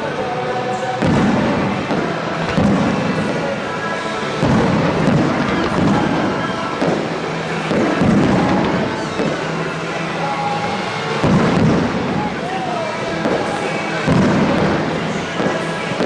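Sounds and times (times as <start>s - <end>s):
music over loudspeakers: 0.0s - 16.0s
fireworks booming: 1.0s - 16.0s.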